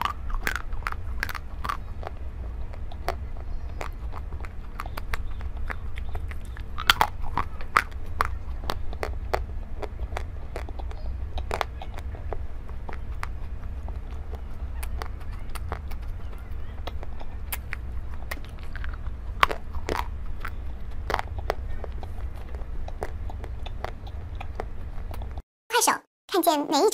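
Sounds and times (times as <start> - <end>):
person chewing strawberries: 0.0 - 25.4.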